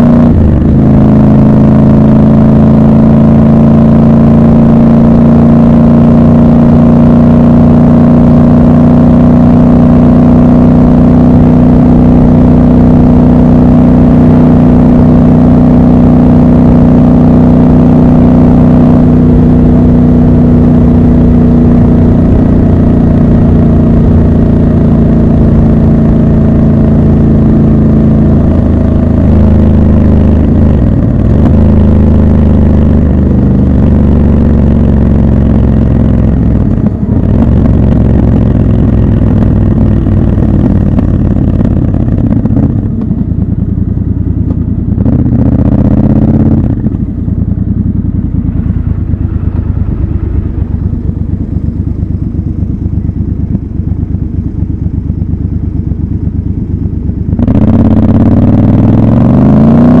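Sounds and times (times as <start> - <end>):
motorcycle engine running and idling: 0.0 - 60.0.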